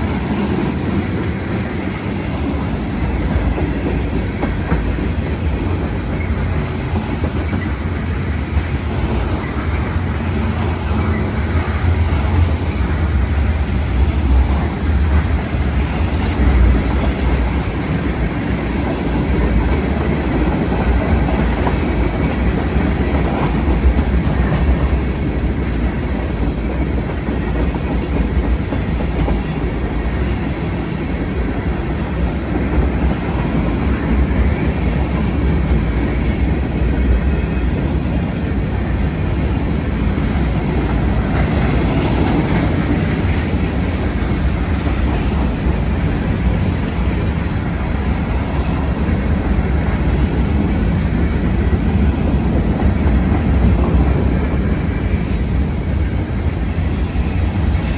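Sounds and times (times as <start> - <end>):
freight train cars rolling past: 0.0 - 57.9.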